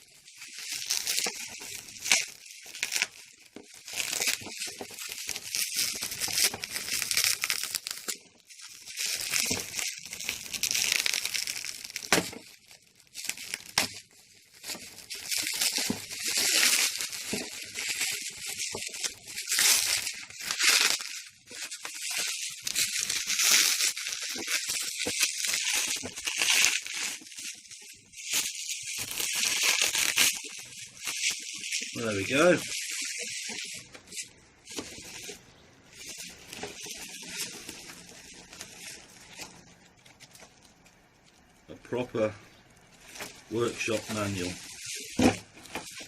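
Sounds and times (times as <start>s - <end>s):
packaging tearing and crinkling: 0.0s - 46.0s.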